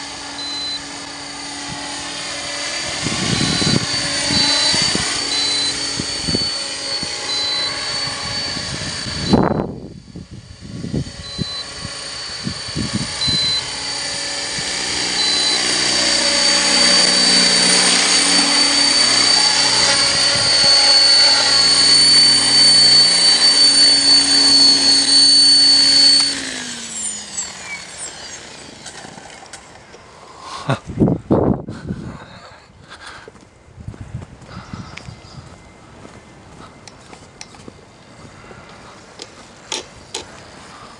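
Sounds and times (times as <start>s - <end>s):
rc helicopter motor and rotor whine: 0.0s - 40.9s.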